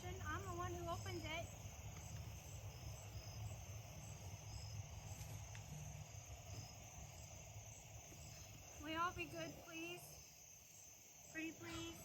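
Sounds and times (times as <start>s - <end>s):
low outdoor rumble: 0.0s - 10.2s
crickets chirping: 0.0s - 12.0s.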